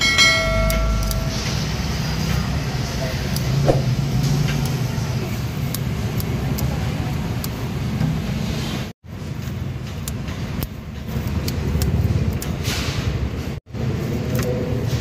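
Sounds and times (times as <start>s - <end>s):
passing road traffic rumble: 0.0s - 15.0s.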